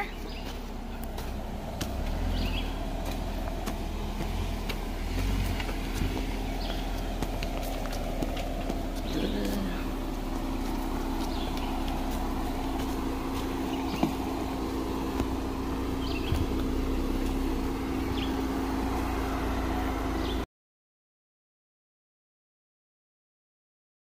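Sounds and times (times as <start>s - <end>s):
car engine running: 0.0s - 20.4s.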